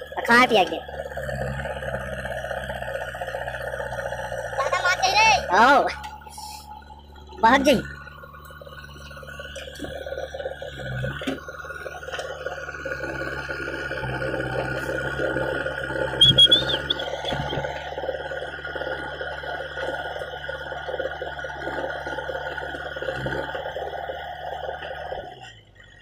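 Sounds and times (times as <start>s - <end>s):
diesel engine running under load: 0.0s - 26.0s
hydraulic whine: 0.0s - 26.0s.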